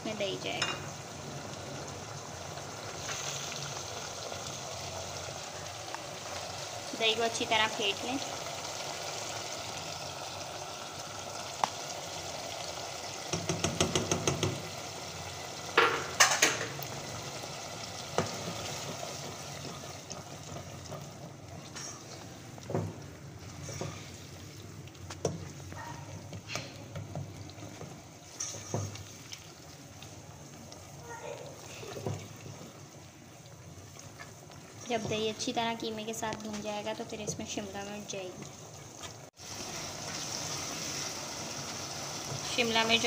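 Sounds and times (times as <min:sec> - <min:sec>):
meat sizzling in a pan: 0:00.0 - 0:43.0.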